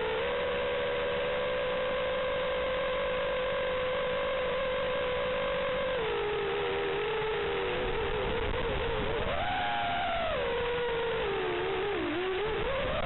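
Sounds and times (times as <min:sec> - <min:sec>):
drone motors and propellers whining: 0:00.0 - 0:13.0.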